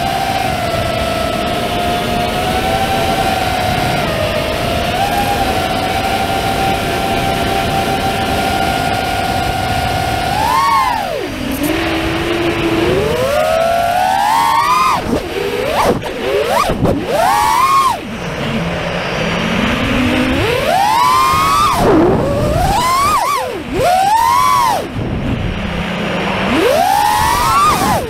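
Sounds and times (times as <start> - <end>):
drone motors whining: 0.0 - 28.0
wind rushing on microphone: 0.0 - 28.0.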